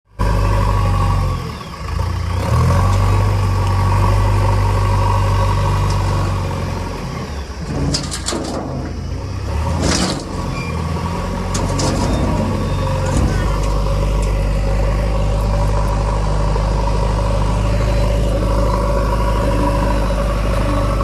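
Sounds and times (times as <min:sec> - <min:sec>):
diesel engine under load: 0:00.1 - 0:21.0.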